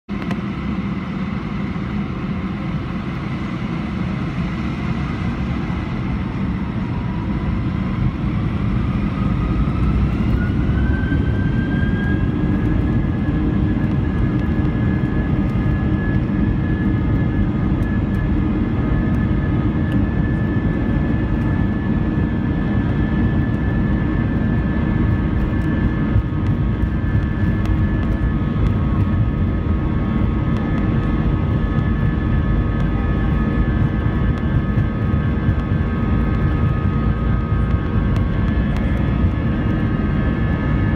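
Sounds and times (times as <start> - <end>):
jet engines whining: 0.1 - 40.9.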